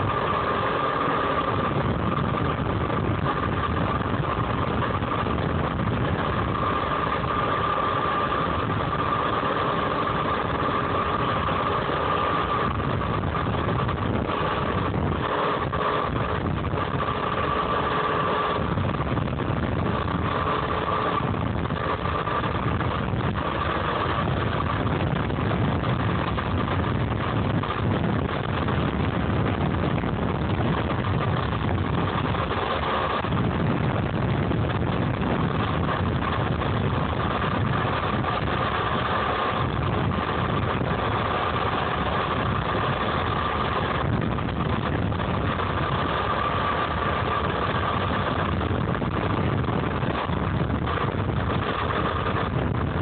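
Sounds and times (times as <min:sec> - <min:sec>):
electric motor whine: 0:00.0 - 0:53.0
noisy rush: 0:00.0 - 0:53.0.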